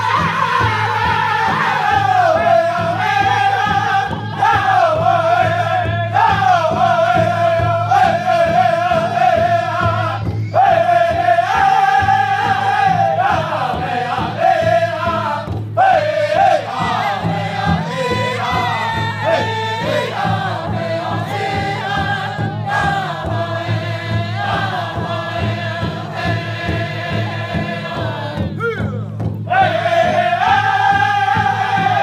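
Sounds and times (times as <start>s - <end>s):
big drum beat: 0.0s - 32.0s
men singing in high voices: 0.0s - 32.0s.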